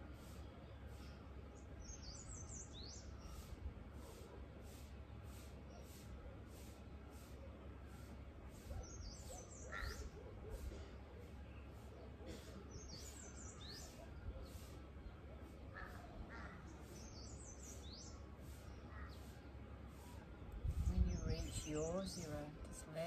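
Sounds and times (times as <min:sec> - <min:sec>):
birds calling faintly: 0:00.0 - 0:23.0.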